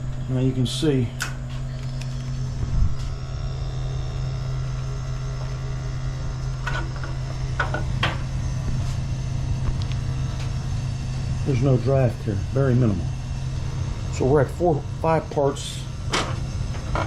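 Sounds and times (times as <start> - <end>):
gas burner humming and rumbling: 0.0 - 17.0.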